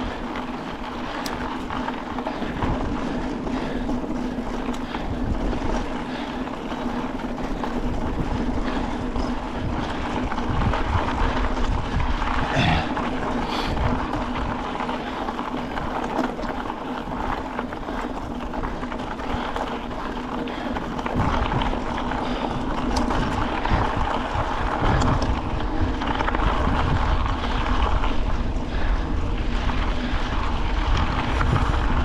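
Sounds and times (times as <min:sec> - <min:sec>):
bicycle rolling rumble: 0:00.0 - 0:32.0
wind rushing over microphone: 0:00.0 - 0:32.0.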